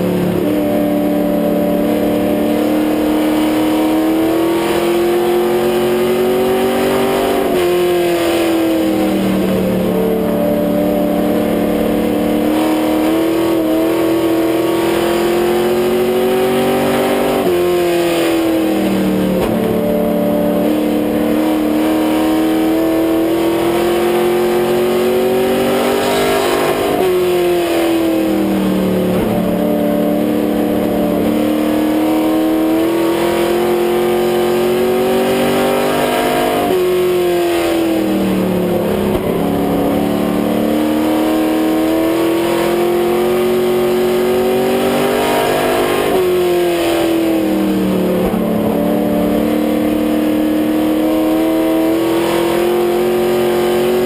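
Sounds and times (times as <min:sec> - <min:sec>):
race car engine under load: 0:00.0 - 0:54.0.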